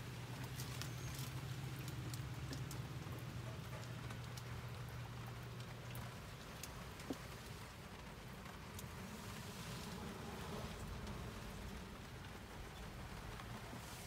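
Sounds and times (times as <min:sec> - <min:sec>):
rain pattering on vehicle cab: 0:00.0 - 0:14.0
single raindrops ticking: 0:00.0 - 0:14.0.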